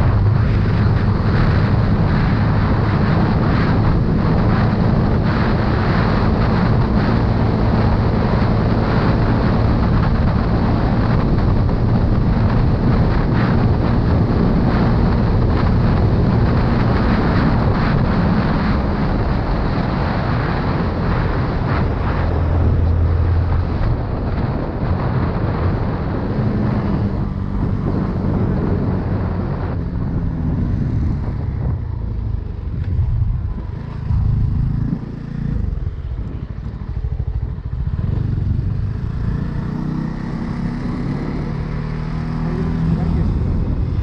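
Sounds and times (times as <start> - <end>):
motorcycle engine running: 0.0 - 44.0
wind noise on microphone: 0.0 - 44.0.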